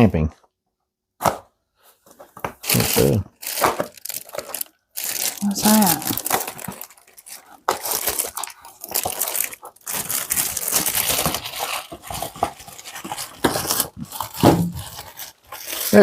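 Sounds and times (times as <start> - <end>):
plastic packaging crinkling: 2.5 - 16.0.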